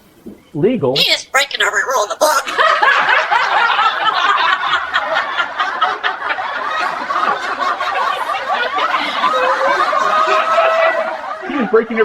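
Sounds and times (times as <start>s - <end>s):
women laughing: 1.8s - 12.0s.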